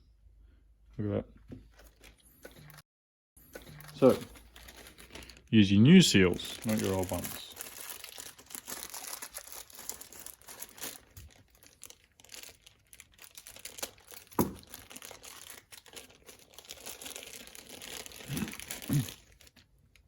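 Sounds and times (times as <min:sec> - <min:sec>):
plastic packaging crinkling: 0:03.4 - 0:20.0.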